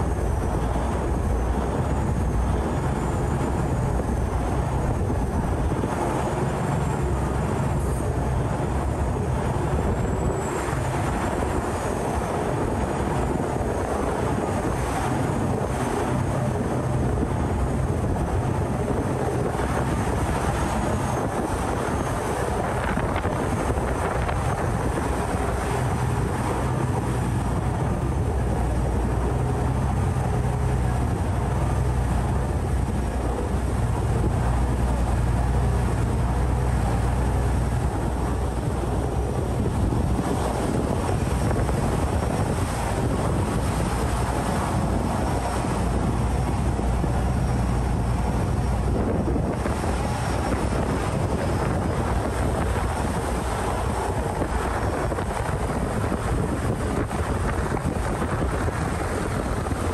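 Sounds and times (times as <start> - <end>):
boat diesel engine running: 0.0 - 59.9
water rushing past hull: 0.0 - 59.9
wind buffeting microphone: 0.0 - 59.9.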